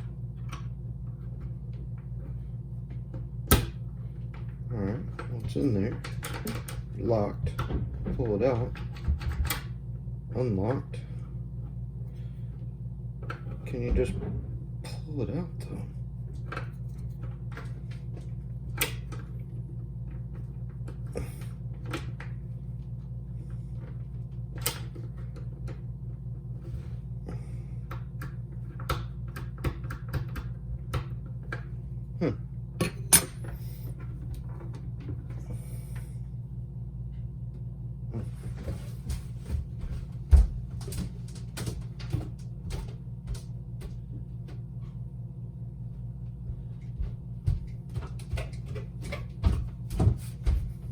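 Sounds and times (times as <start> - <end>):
low hum: 0.0 - 50.9.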